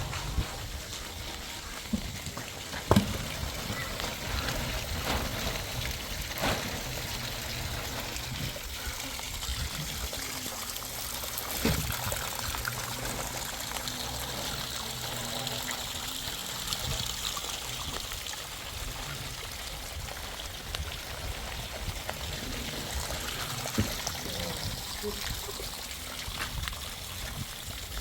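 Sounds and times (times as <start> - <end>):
fine rain patter: 0.0 - 28.0
rainwater trickling and pouring: 0.0 - 28.0.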